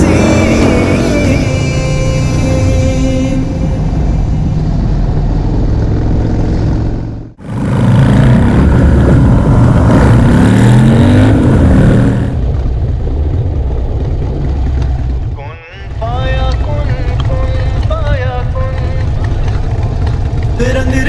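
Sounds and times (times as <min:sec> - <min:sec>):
motorcycle engines revving: 0:00.0 - 0:02.7, 0:03.8 - 0:15.4, 0:17.8 - 0:21.0.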